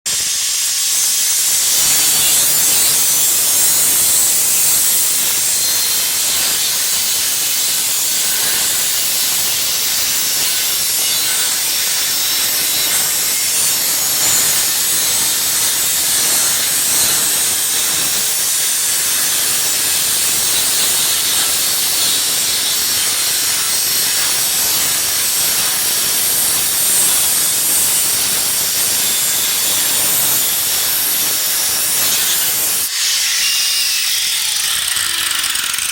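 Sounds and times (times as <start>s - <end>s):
angle grinder cutting metal: 0.1s - 35.9s.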